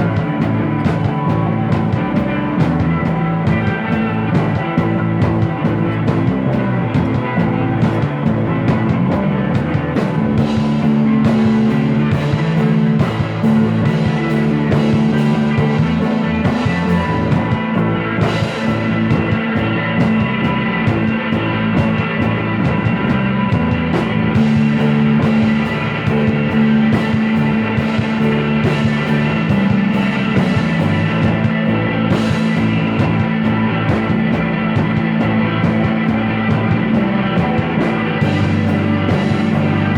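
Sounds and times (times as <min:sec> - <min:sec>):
electric guitar: 0:00.0 - 0:39.9
steady drum beat: 0:00.0 - 0:39.9.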